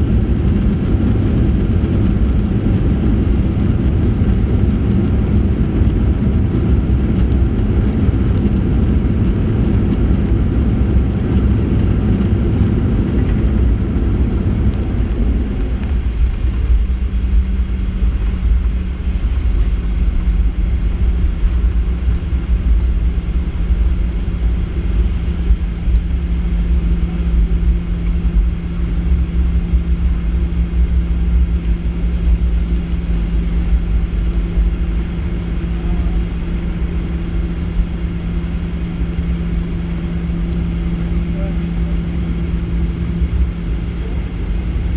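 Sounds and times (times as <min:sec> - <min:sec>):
airplane cabin rumble: 0:00.0 - 0:44.9
steady cabin hum: 0:00.0 - 0:44.9.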